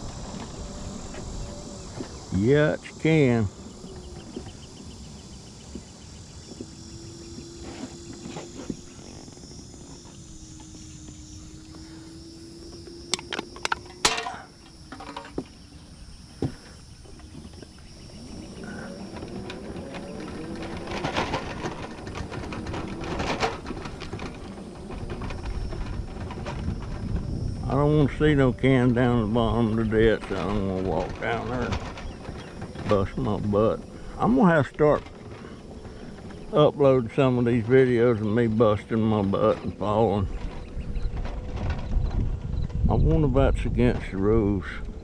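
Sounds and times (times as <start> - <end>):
insects chirring: 0.0 - 45.0
rattles: 0.0 - 45.0
rumble over bumpy grass: 0.0 - 45.0
scooter motor whine: 0.0 - 45.0.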